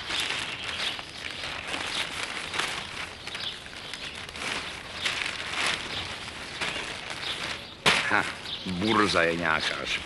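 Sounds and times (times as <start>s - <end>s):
newspaper rustling: 0.0s - 10.0s.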